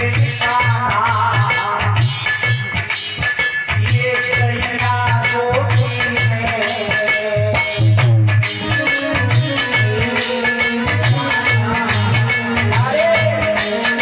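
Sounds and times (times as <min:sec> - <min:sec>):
devotional music with drum beat: 0:00.0 - 0:14.0.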